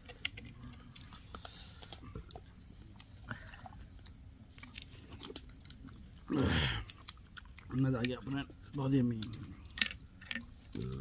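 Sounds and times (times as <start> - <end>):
person chewing and biting food: 0.0 - 11.0.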